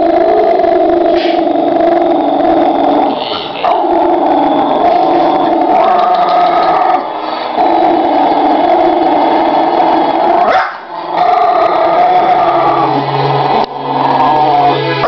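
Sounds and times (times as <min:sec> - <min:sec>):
dogs howling: 0:00.0 - 0:15.0.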